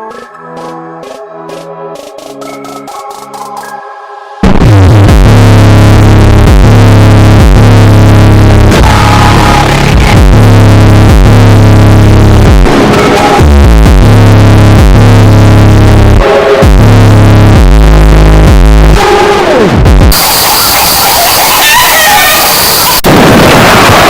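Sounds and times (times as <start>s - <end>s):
loud electronic music: 0.0s - 24.0s.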